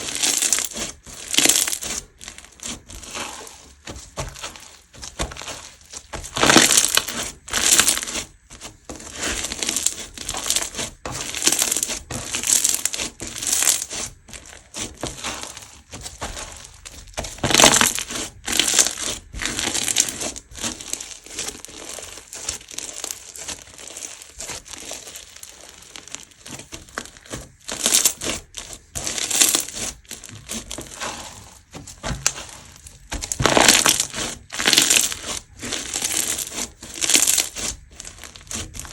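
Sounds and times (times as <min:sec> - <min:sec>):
crunchy slime crackling: 0:00.0 - 0:38.9.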